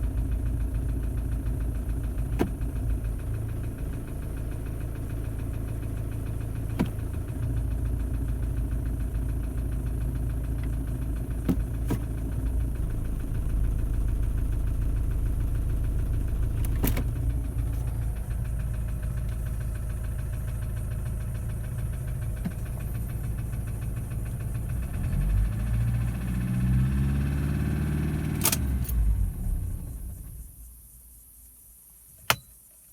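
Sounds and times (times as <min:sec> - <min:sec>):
diesel engine knocking: 0:00.0 - 0:28.3.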